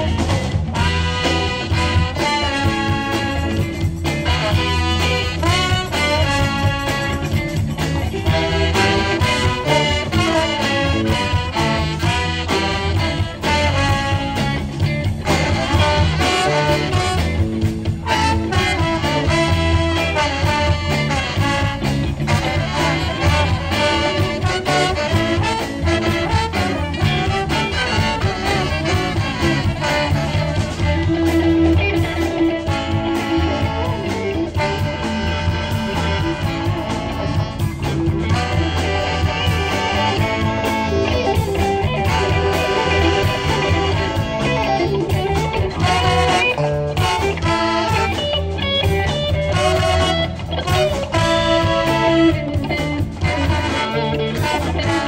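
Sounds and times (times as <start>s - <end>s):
live band with horn section: 0.0s - 55.0s.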